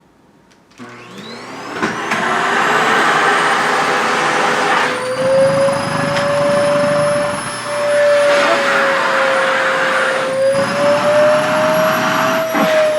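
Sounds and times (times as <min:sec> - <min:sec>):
vacuum cleaner motor whining: 0:00.7 - 0:12.9.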